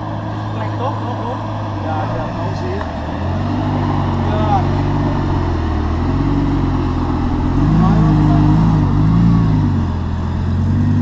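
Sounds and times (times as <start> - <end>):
car engine idling: 0.0 - 11.0
car engine pulling away: 0.0 - 11.0.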